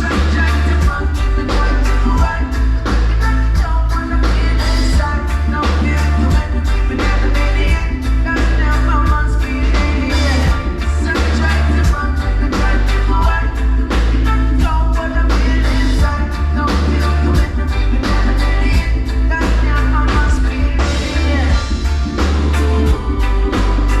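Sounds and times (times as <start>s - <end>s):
heavy bass line: 0.0s - 24.0s
person singing: 0.0s - 24.0s
steady drum beat: 0.0s - 24.0s.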